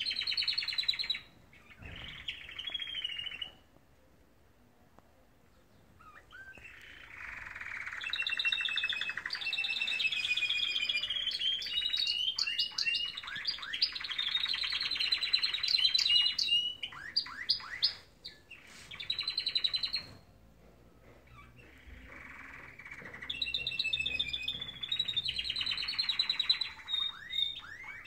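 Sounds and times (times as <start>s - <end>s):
canary singing fast trills: 0.0s - 3.7s, 5.5s - 20.3s, 21.3s - 28.0s.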